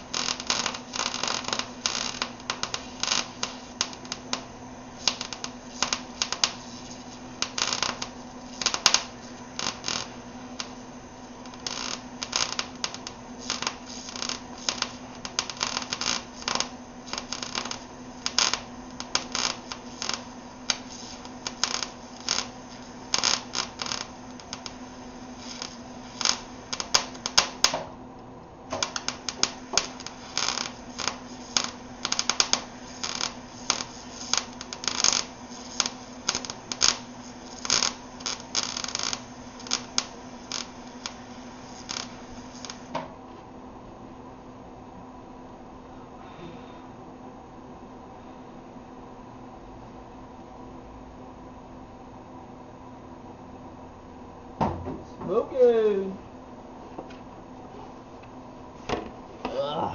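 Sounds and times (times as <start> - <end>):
welder arc crackling and popping: 0.0 - 43.5, 55.0 - 59.9
faint steady hum: 0.0 - 59.9.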